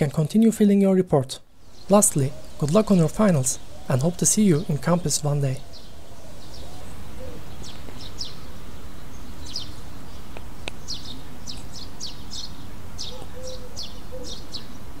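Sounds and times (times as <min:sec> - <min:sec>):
small birds chirping: 0:01.5 - 0:15.0.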